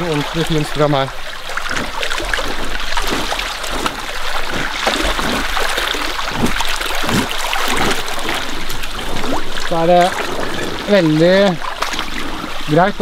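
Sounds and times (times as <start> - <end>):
stream flowing over gravel: 0.0 - 13.0
water splashing around a boot: 0.0 - 13.0.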